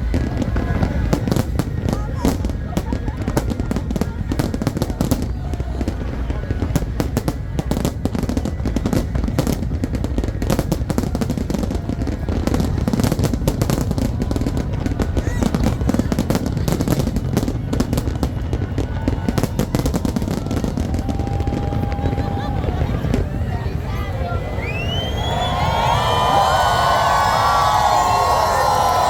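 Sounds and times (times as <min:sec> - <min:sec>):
distant firework bursts rumbling: 0:00.0 - 0:23.9
fireworks bangs and crackles: 0:00.0 - 0:29.0.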